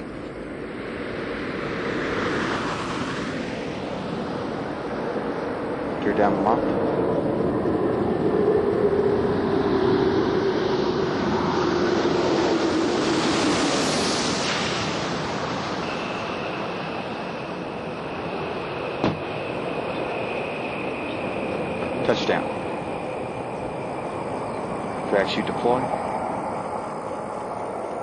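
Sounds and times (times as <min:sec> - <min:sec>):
rushing air with falling tone: 0:00.0 - 0:28.0.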